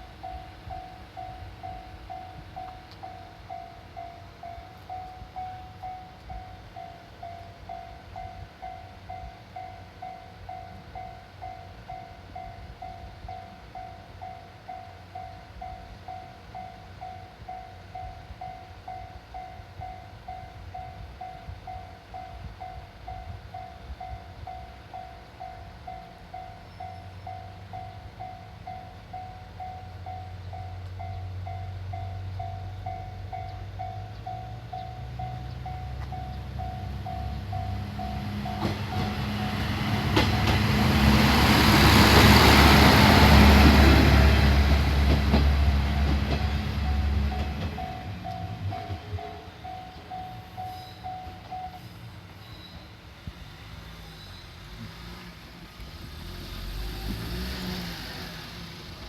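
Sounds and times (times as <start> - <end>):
approaching train rumble: 0.0 - 59.0.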